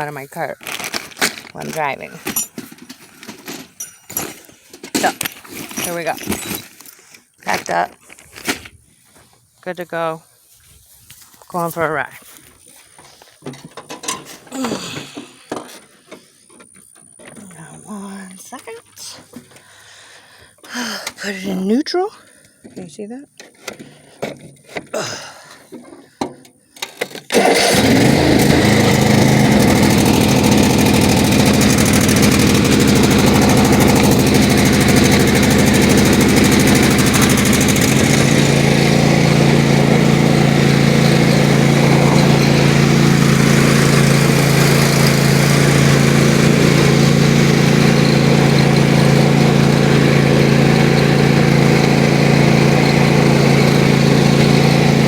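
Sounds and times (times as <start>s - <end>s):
riding lawnmower engine: 0.0s - 7.8s, 11.6s - 22.8s, 26.8s - 55.0s.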